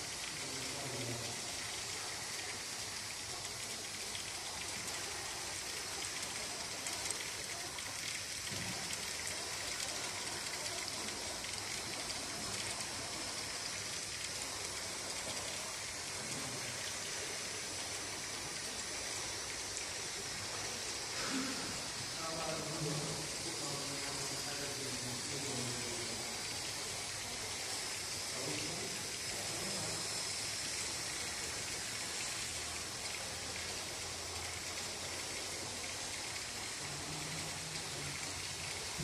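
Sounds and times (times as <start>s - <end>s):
steady hiss: 0.0s - 39.0s
faint indistinct voices: 0.2s - 39.0s.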